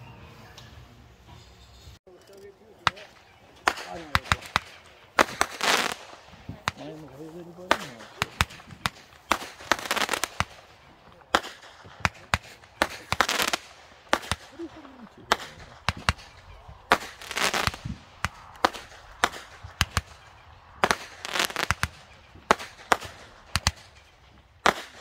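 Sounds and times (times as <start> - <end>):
fireworks bangs: 2.8 - 25.0.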